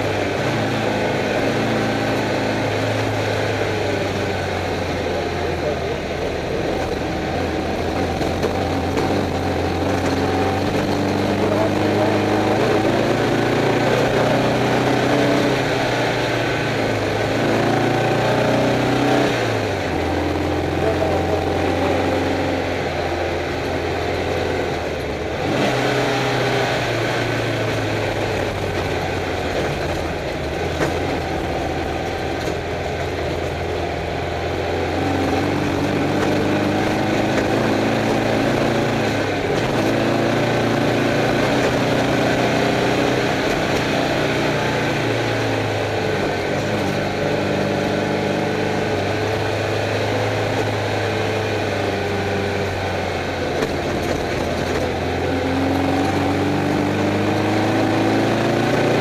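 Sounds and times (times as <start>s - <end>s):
engine revving inside car: 0.0s - 59.0s.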